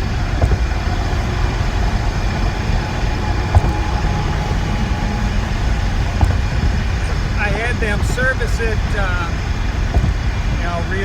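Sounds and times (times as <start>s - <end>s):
faint steady whine: 0.0s - 11.0s
road and drivetrain noise: 0.0s - 11.0s.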